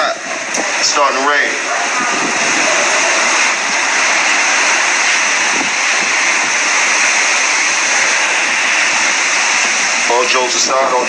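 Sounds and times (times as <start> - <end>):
heavy rain downpour: 0.0 - 11.0
wind rushing: 0.0 - 11.0.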